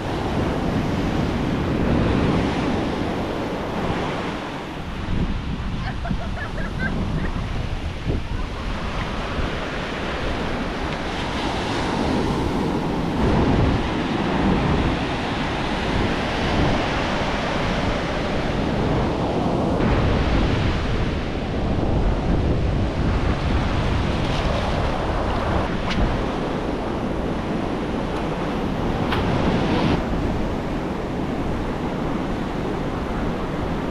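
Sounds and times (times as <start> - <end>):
ocean surf breaking on sand: 0.0 - 33.9
wind buffeting microphone: 0.0 - 33.9.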